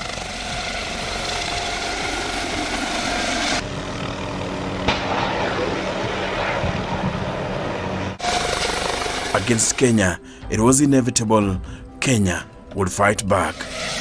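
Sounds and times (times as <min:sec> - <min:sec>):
helicopter rotor and turbine noise: 0:00.0 - 0:12.0, 0:12.9 - 0:14.0.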